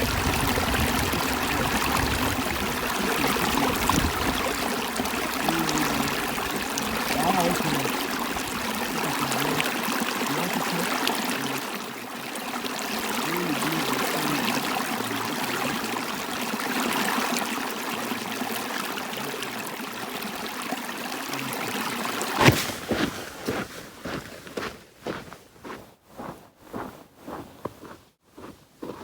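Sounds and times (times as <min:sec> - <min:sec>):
stream water running: 0:00.0 - 0:25.2.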